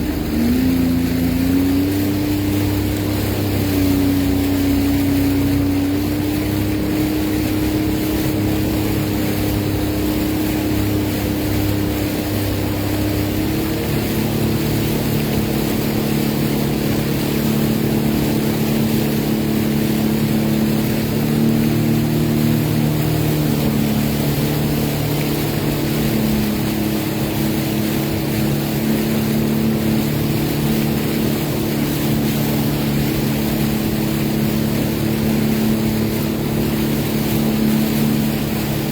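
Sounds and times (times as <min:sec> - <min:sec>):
rush of water and air: 0:00.0 - 0:38.9
watercraft engine running: 0:00.0 - 0:38.9.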